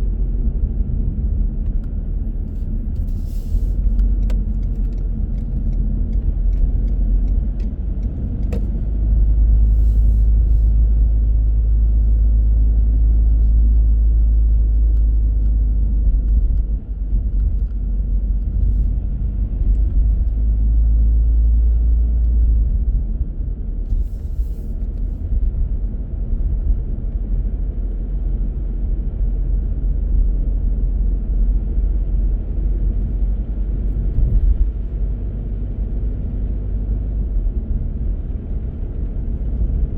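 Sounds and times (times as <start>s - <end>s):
car interior road and engine rumble: 0.0s - 39.9s.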